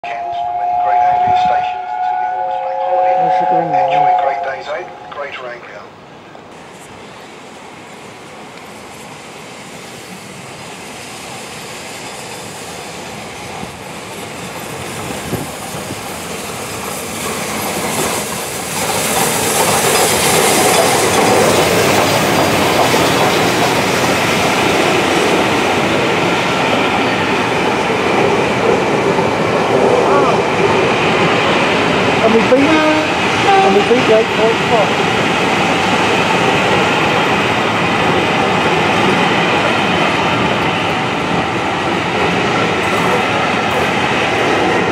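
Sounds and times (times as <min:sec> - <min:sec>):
train running past: 0:00.0 - 0:44.9.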